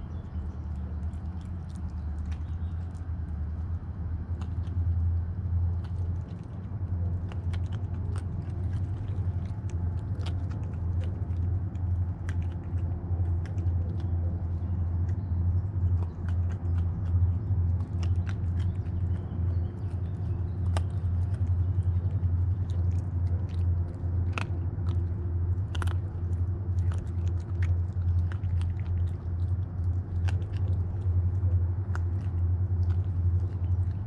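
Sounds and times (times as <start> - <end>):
animal crunching dry kibble: 0.0 - 34.0
steady low hum: 0.0 - 34.0.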